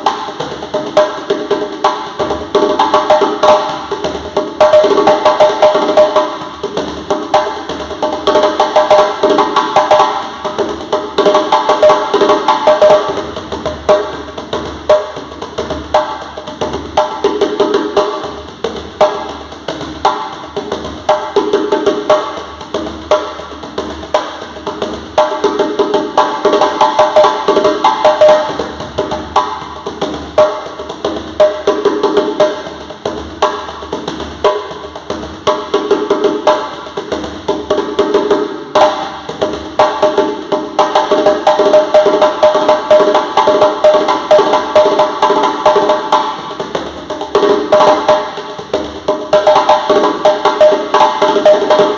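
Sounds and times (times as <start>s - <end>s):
drum played fast: 0.0s - 51.9s.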